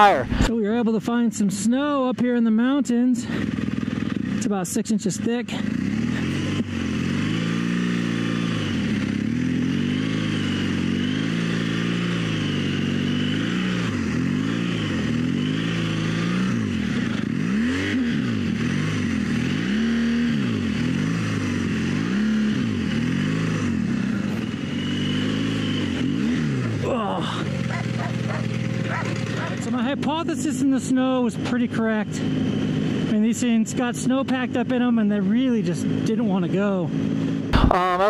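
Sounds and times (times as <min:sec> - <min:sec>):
motorcycle engine revving: 0:01.8 - 0:38.0.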